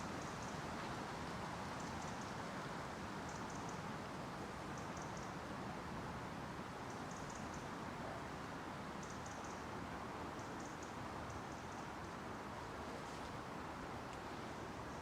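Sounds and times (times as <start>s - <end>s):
wind through bare trees: 0.0s - 15.0s.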